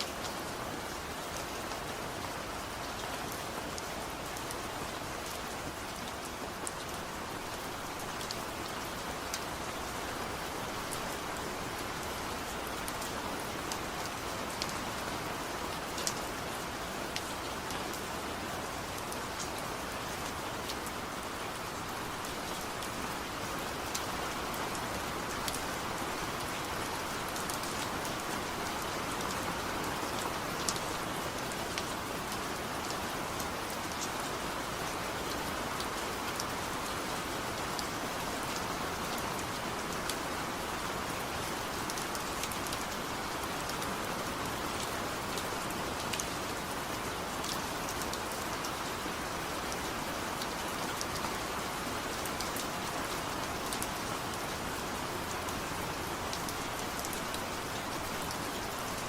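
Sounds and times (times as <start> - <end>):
gentle rain: 0.0 - 59.0.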